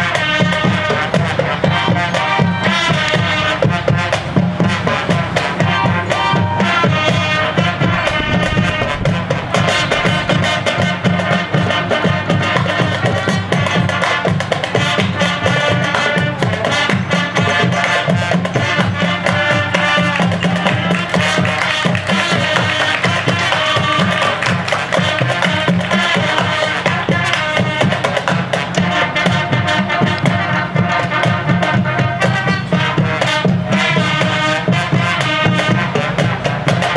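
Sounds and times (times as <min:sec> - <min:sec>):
drum line percussion: 0:00.0 - 0:36.9
marching band winds and brass: 0:00.0 - 0:36.9.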